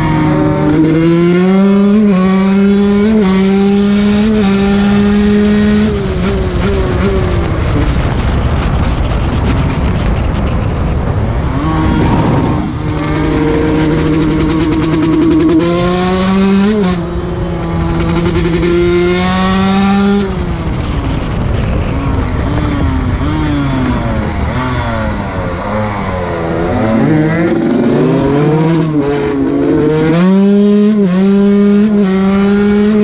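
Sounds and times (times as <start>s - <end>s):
dirt bike engine revving: 0.0s - 10.2s, 11.2s - 33.0s.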